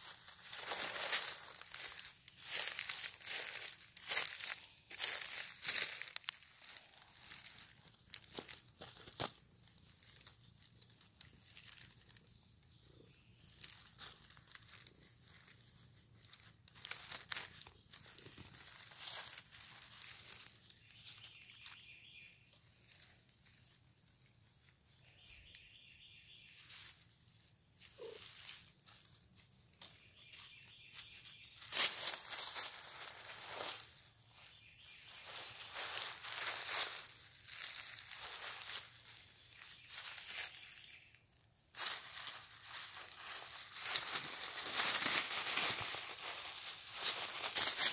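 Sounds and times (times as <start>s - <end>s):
dry leaves crackling and rustling: 0.0s - 47.9s.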